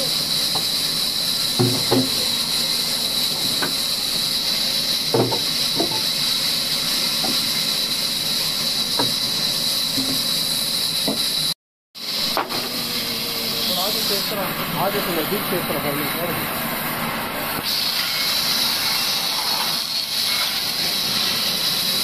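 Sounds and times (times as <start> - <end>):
band saw running with high hiss: 0.0 - 22.0.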